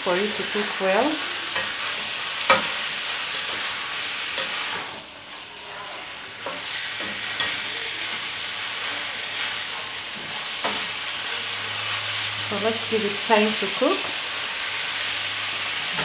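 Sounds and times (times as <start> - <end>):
meat and onions sizzling: 0.0 - 16.0
spatula scraping pan: 0.1 - 16.0.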